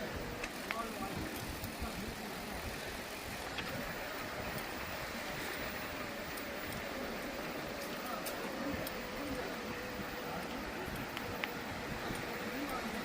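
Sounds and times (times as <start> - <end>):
bike tyres rolling: 0.0 - 13.0
wind: 0.0 - 13.0.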